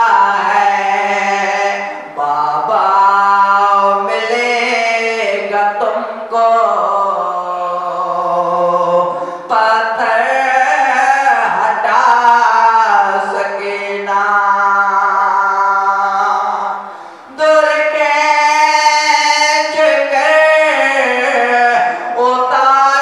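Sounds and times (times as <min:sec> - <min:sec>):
young man chanting a lament: 0:00.0 - 0:23.0.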